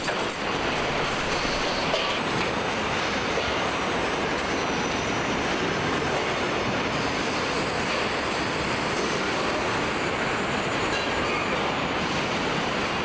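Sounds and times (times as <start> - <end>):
conveyors and machinery running: 0.0 - 13.0.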